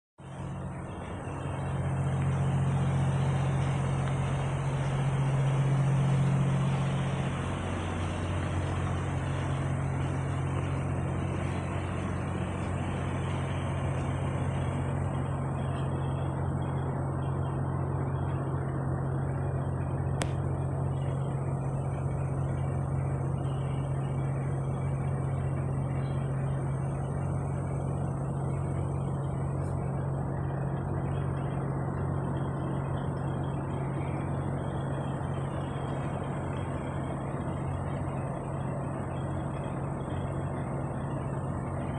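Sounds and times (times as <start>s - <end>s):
road noise: 0.2s - 41.9s
truck engine running: 0.2s - 41.9s.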